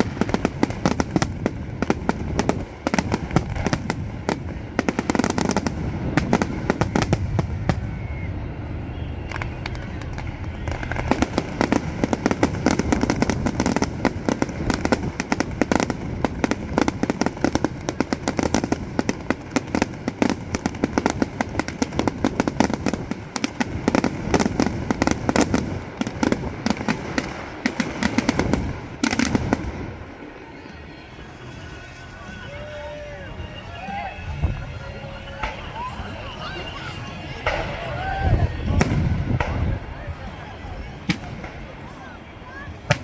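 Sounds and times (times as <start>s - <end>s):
fireworks crackling bangs: 0.0s - 43.0s.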